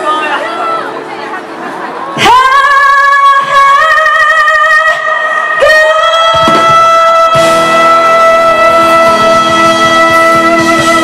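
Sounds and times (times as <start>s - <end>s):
live pop band playing: 0.0s - 11.0s.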